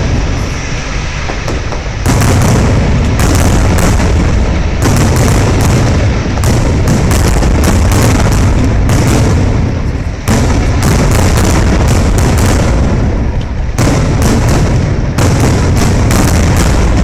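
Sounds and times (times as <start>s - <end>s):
fireworks booming and cracking: 0.0s - 17.0s.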